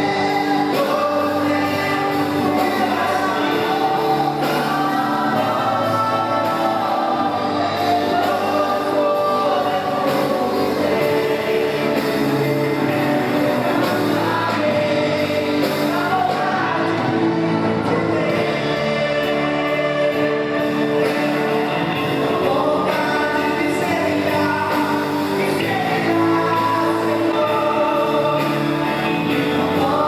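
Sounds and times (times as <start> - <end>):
gospel choir singing with band: 0.0 - 30.0.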